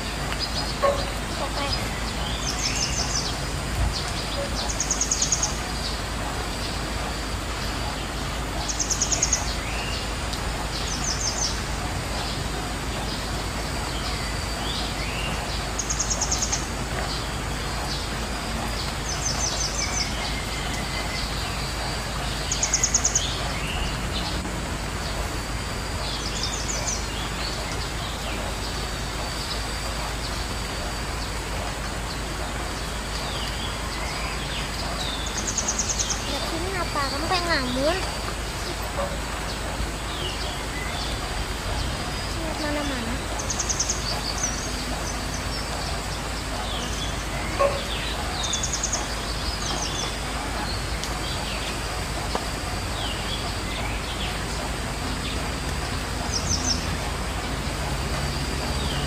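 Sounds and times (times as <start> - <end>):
background hiss: 0.0 - 59.0
birds trilling: 0.0 - 59.0.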